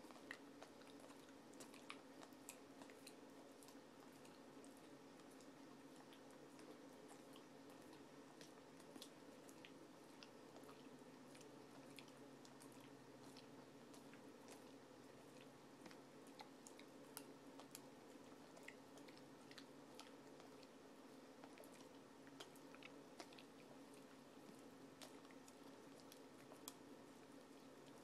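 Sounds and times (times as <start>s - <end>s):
dog licking wet smacks: 0.0s - 28.0s.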